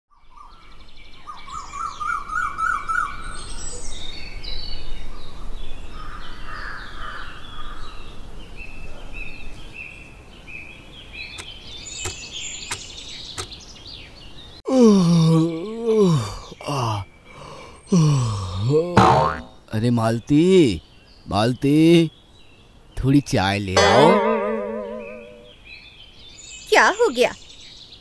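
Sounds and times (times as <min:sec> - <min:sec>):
small birds chirping and trilling: 0:00.1 - 0:18.9, 0:19.5 - 0:28.0.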